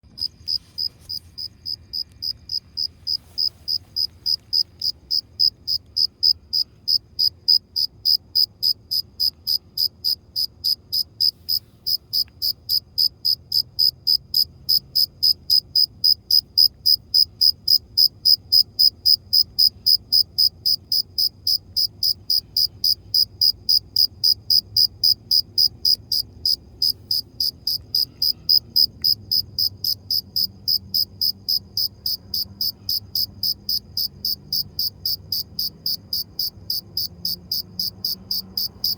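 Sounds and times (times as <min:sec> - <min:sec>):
cricket chirping: 0:00.1 - 0:38.9.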